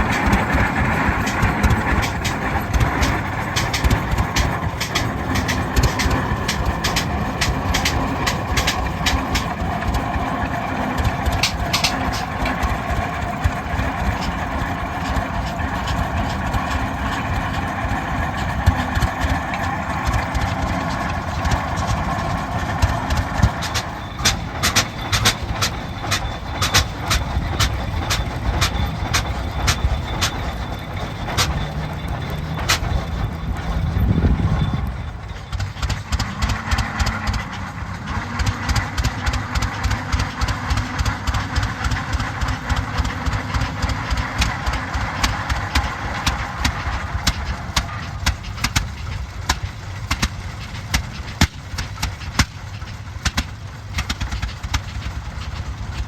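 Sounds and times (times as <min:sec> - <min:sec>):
sharp clacks and knocks: 0:00.0 - 0:56.0
tractor engines running: 0:00.0 - 0:56.0.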